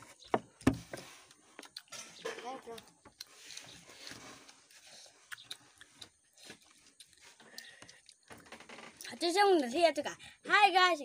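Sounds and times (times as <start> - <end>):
child chewing: 0.0 - 9.3.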